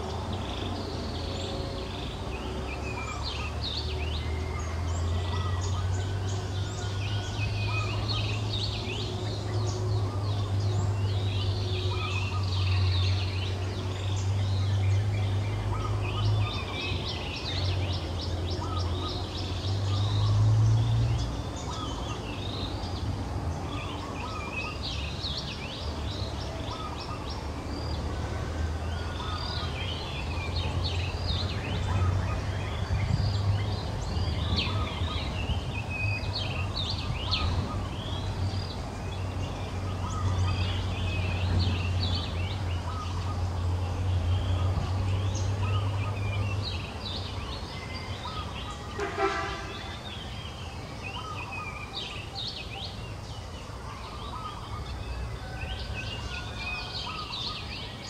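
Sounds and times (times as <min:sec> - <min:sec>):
birds chirping and trilling: 0:00.0 - 0:58.0.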